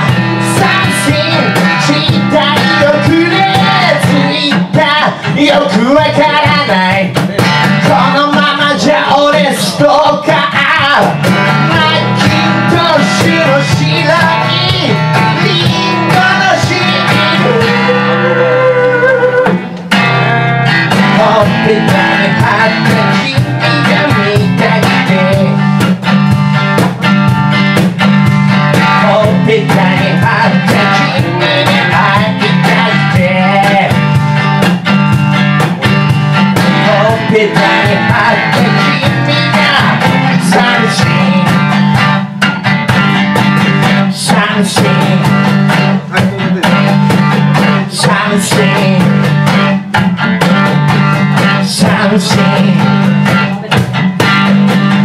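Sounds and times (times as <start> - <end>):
man singing: 0.0 - 19.8, 20.9 - 25.9, 28.6 - 34.4, 36.6 - 42.0, 43.6 - 49.8, 51.3 - 53.9
cajon beat: 0.0 - 55.0
electric guitar strumming: 0.0 - 55.0.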